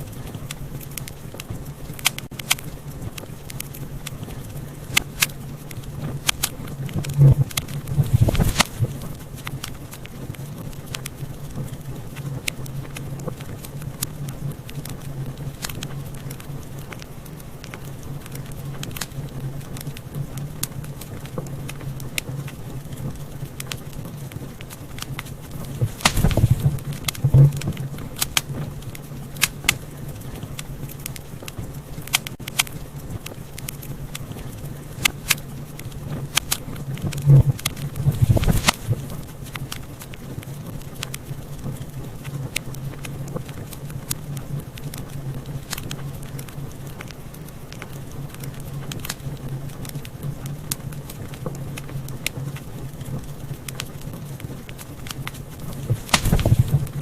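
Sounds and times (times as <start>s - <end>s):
steady low hum: 0.0s - 57.0s
wood fire crackling and popping: 0.0s - 57.0s.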